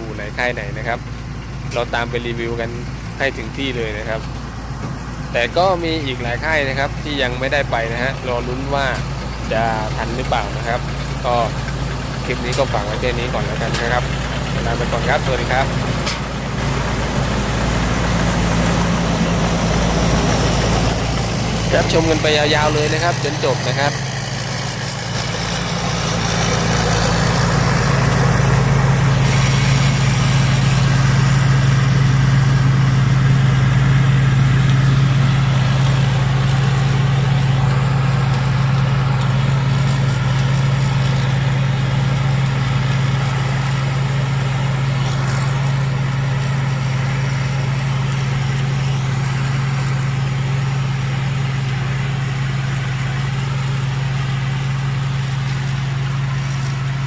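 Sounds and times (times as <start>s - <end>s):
combine harvester engine hum: 0.0s - 57.0s
high steady whine: 0.0s - 57.0s.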